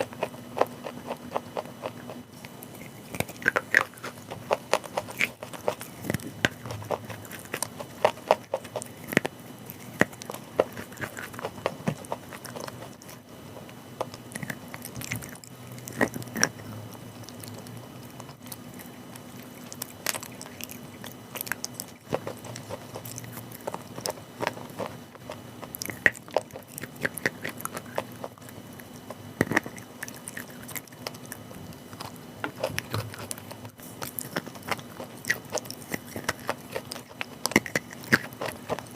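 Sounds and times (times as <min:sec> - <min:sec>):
chewing and crunching chalk: 0:00.0 - 0:38.9
faint steady hum: 0:00.0 - 0:38.9.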